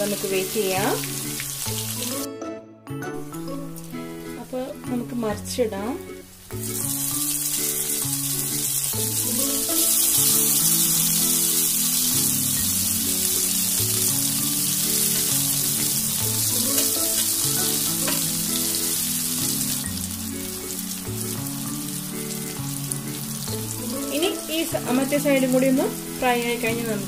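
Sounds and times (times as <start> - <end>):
vegetables sizzling in hot oil: 0.0 - 2.3, 3.4 - 27.0
background music: 0.0 - 27.0.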